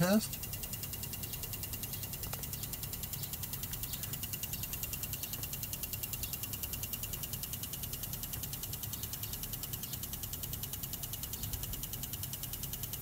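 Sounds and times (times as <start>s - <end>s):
fuel valve clicking rapidly: 0.0s - 13.0s.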